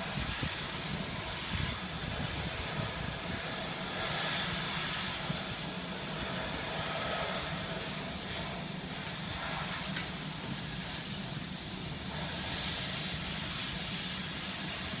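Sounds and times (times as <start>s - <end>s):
loud machinery hiss: 0.0s - 15.0s.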